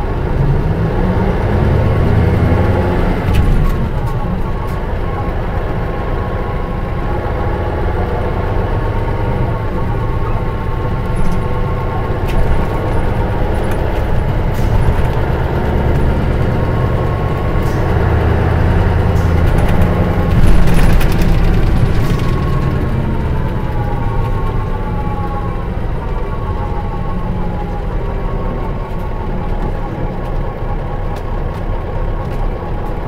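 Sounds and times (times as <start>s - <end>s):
bus engine drone from cabin: 0.0s - 33.0s.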